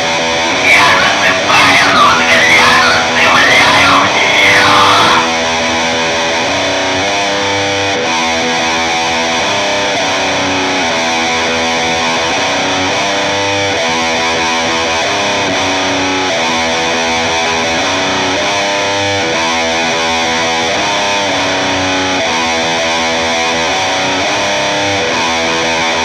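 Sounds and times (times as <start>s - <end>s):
distorted electric guitar music: 0.0s - 26.0s.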